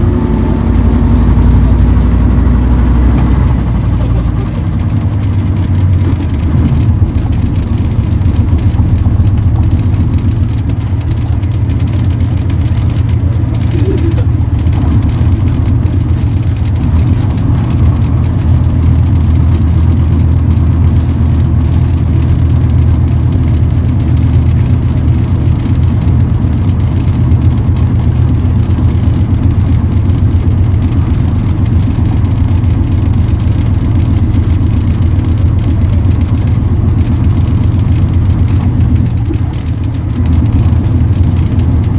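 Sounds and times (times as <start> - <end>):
bus diesel engine droning: 0.0 - 41.9.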